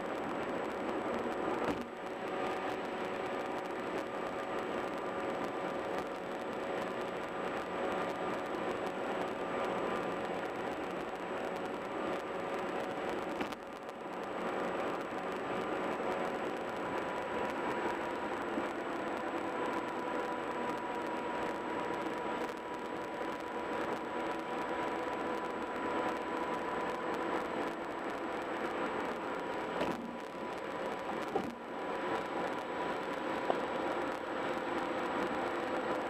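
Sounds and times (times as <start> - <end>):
tyre and wind road noise: 0.0 - 36.0.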